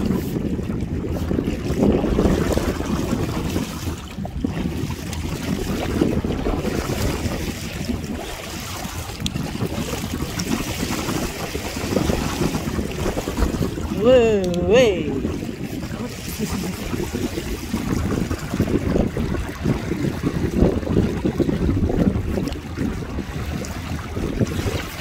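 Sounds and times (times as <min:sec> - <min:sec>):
water sloshing against kayak: 0:00.0 - 0:25.0
wind buffeting microphone: 0:00.0 - 0:25.0.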